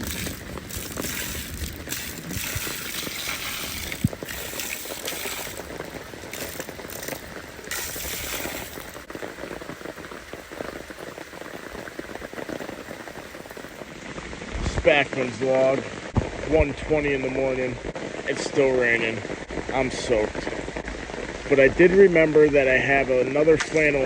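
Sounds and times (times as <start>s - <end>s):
rain pattering on a tent: 0.0s - 24.0s.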